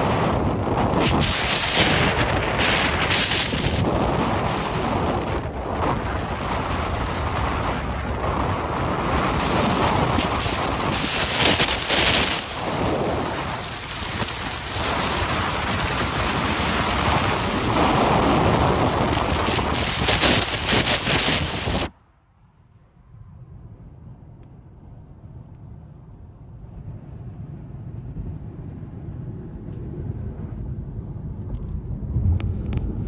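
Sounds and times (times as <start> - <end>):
road and wind noise: 0.0 - 33.0.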